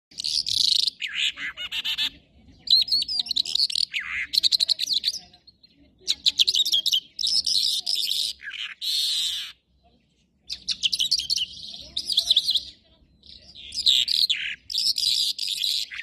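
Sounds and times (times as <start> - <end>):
songbird singing: 0.1 - 16.0.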